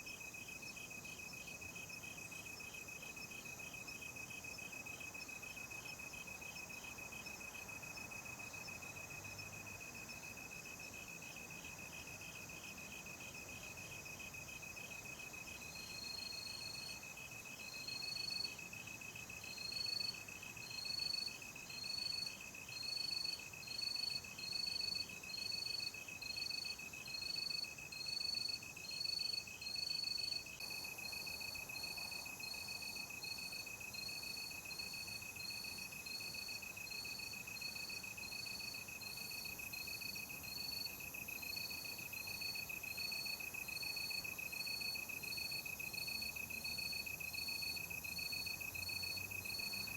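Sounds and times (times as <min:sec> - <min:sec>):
cricket chirping: 0:00.0 - 0:49.9
steady insect trill: 0:00.0 - 0:49.9.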